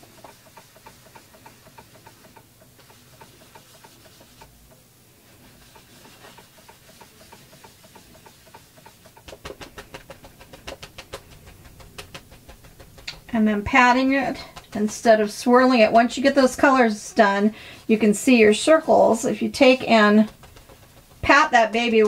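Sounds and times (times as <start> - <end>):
baby wipe rubbing wet paint: 0.0 - 4.5, 5.2 - 22.0
wipe dabbing on paper: 0.0 - 4.5, 5.2 - 22.0.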